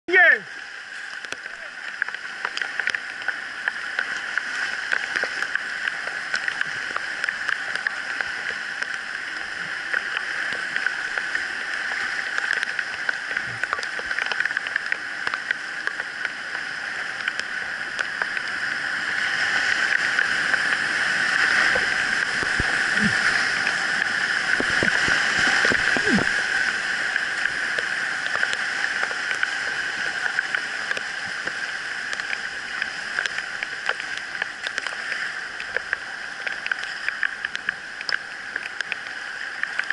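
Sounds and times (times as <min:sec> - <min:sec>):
water gurgling and splashing: 0:00.1 - 0:39.9
whitewater river rushing: 0:00.1 - 0:39.9.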